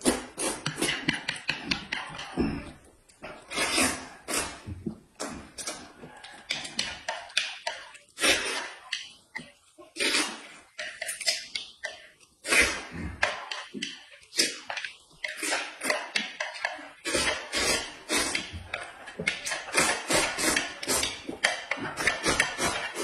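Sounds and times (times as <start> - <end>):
noodles slurped and chewed: 0.0 - 23.0.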